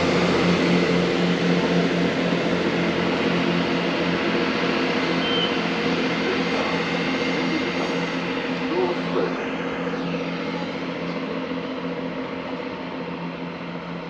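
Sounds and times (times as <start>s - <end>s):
diesel train engine humming: 0.0s - 14.0s.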